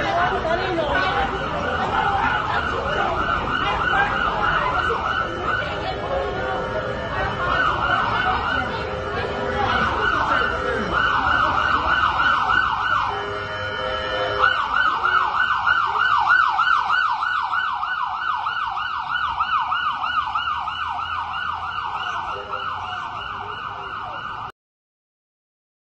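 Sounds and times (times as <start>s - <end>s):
emergency siren yelping: 0.0s - 24.5s.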